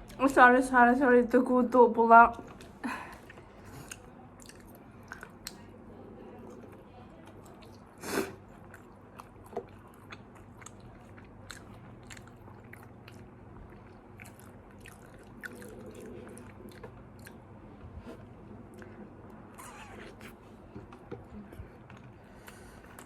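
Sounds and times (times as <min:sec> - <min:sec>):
steady fan hum: 0:00.0 - 0:23.0
person chewing food: 0:02.4 - 0:05.7, 0:06.5 - 0:23.0.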